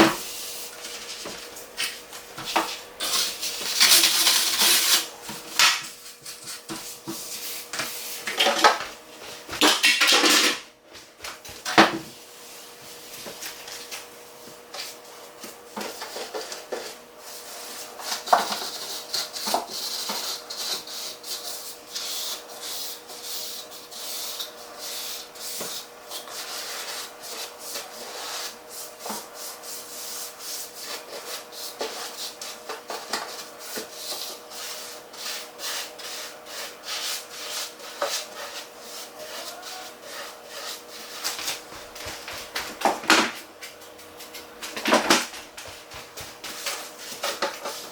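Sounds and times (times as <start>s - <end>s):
cloth scrubbing refrigerator: 0.0s - 9.7s, 10.8s - 47.9s.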